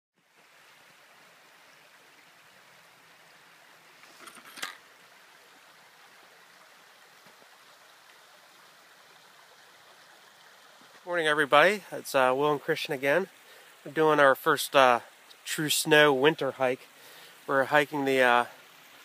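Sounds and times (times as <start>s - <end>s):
stream water rushing: 0.2s - 19.0s.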